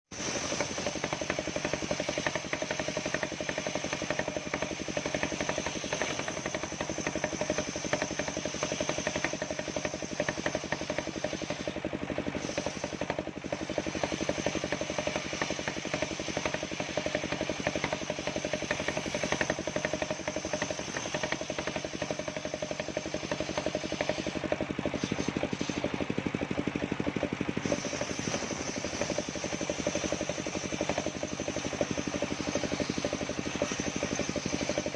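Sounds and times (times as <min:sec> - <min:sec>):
high whine of spinning saw blade: 0:00.1 - 0:34.9
sawmill motor chugging: 0:00.1 - 0:34.9.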